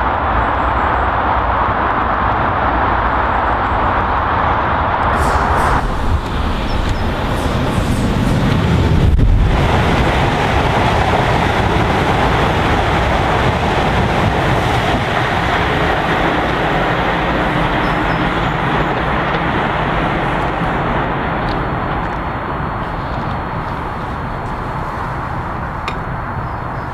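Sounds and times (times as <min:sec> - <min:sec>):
electric train passing at speed: 0:00.0 - 0:26.9.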